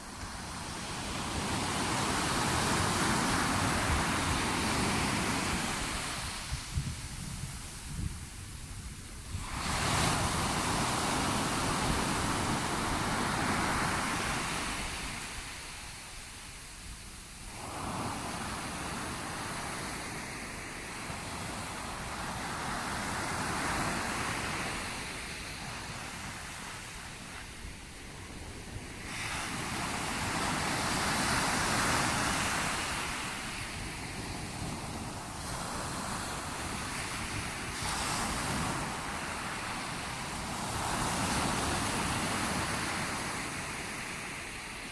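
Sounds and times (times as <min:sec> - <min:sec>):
sea waves breaking on shore: 0:00.0 - 0:44.9.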